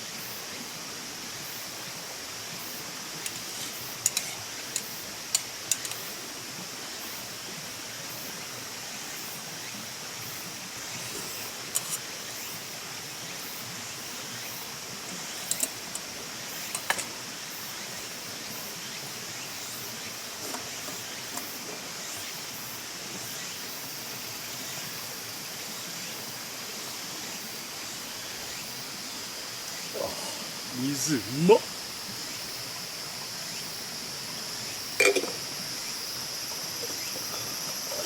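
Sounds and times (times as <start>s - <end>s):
outdoor background hiss: 0.0s - 38.0s.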